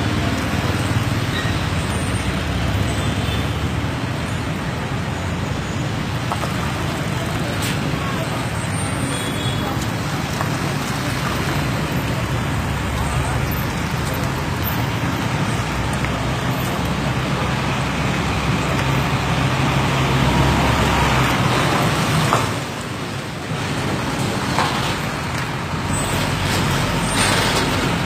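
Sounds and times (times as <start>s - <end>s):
heavy vehicle engine running: 0.0s - 28.0s
road traffic noise: 0.0s - 28.0s.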